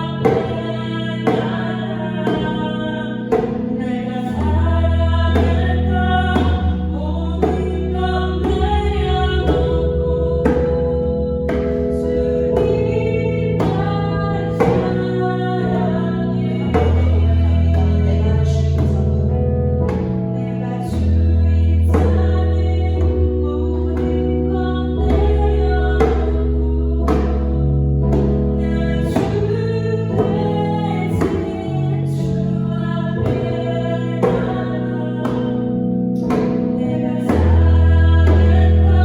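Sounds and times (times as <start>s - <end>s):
person singing worship song: 0.0s - 39.0s
sustained bass notes: 0.0s - 39.0s.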